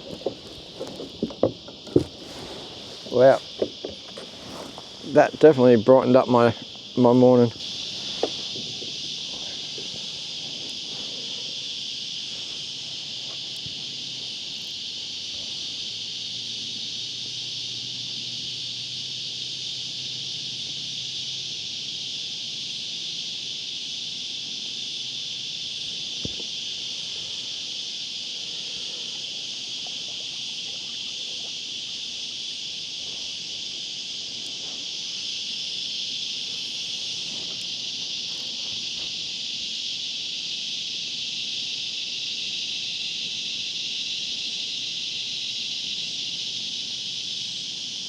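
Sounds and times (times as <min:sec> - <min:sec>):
cicadas droning: 0:00.0 - 0:48.0.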